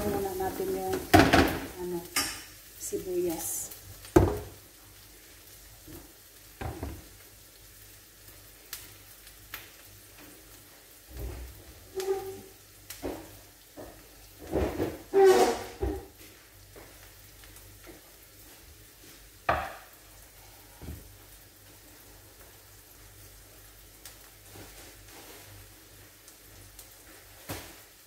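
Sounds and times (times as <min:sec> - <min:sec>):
onions sizzling in a pan: 0:00.0 - 0:28.0.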